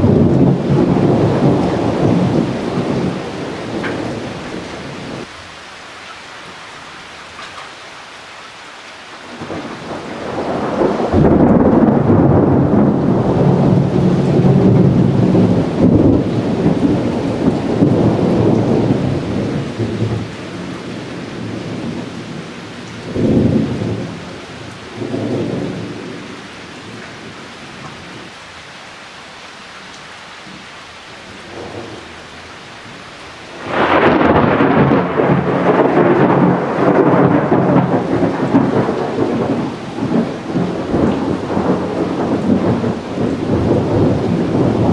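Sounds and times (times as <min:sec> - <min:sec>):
thunder rumbling: 0:00.0 - 0:05.3, 0:09.3 - 0:28.3, 0:32.8 - 0:44.9
steady rain: 0:00.0 - 0:44.9.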